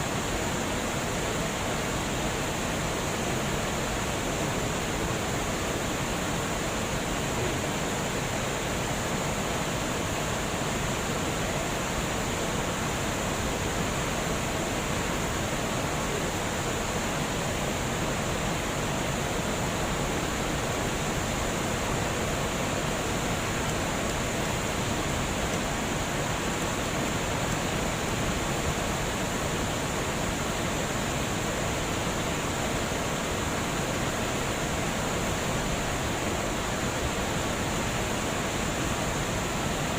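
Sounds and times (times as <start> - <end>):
water flowing over a dam: 0.0 - 39.9.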